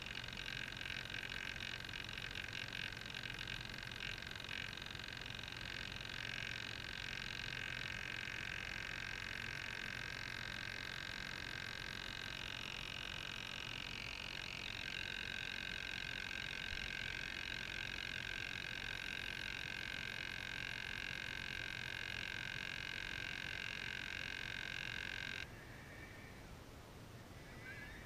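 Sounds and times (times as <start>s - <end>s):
high-pitched electric motor whine: 0.0s - 26.3s.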